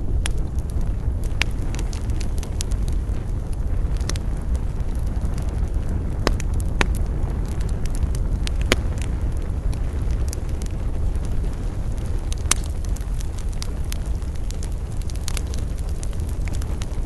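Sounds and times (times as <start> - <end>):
campfire crackling and popping: 0.0 - 17.0
low rumble: 0.0 - 17.0.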